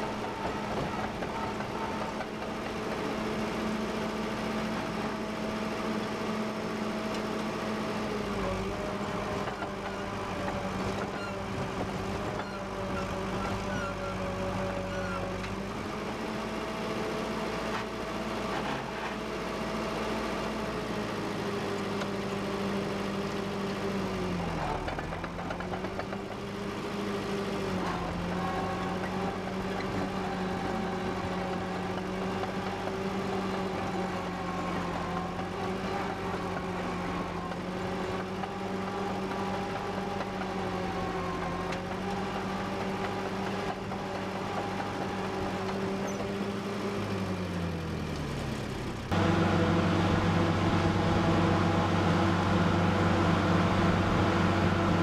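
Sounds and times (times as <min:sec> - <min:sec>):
dozer engine running: 0:00.0 - 0:55.0
tractor engine running: 0:00.0 - 0:55.0.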